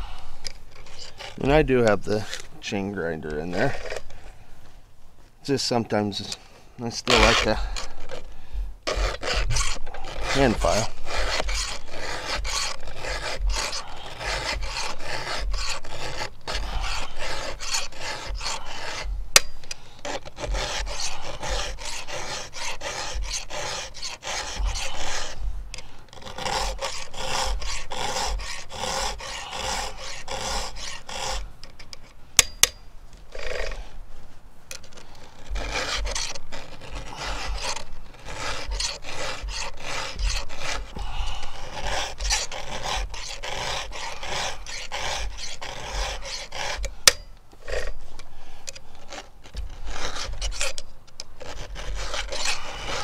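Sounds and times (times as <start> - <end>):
file rasping on chainsaw chain: 0.7 - 4.1, 7.1 - 8.3, 8.9 - 25.4, 26.1 - 31.5, 32.4 - 33.8, 34.8 - 48.0, 48.7 - 50.8, 51.4 - 53.0.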